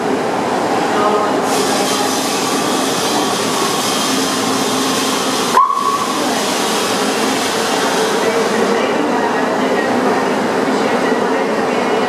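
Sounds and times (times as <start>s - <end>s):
train pulling into station: 0.0s - 12.0s.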